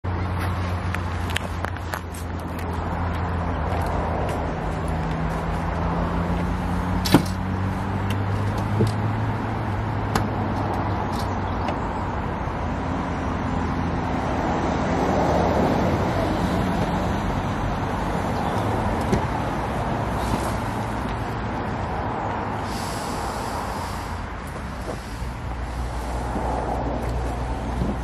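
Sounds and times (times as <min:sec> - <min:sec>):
road traffic: 0:00.0 - 0:28.0
vehicle passing: 0:00.1 - 0:28.0.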